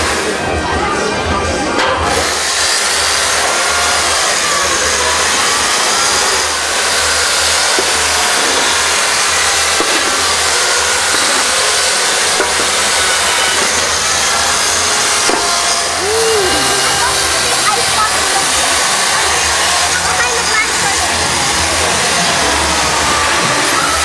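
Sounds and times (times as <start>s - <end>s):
chainsaw cutting ice: 0.0s - 0.4s, 2.0s - 24.0s.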